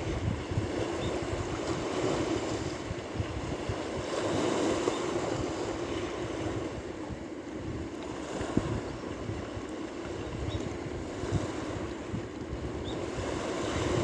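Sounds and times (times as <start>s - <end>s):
ocean waves washing in: 0.0s - 14.0s
wind buffeting microphone: 0.0s - 14.0s.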